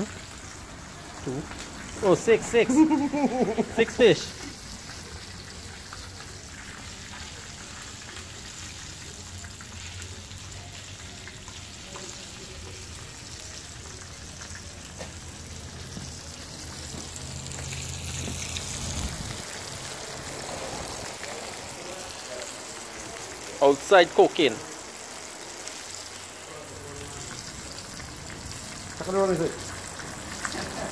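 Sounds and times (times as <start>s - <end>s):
fish sizzling in hot oil: 0.0s - 30.9s.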